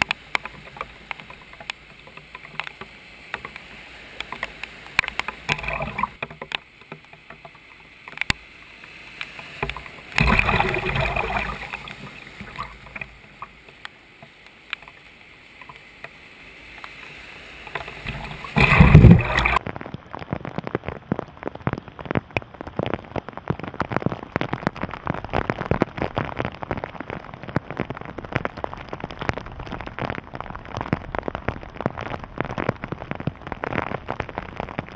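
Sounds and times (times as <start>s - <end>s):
heavy rain on flooded pavement: 0.0s - 34.9s.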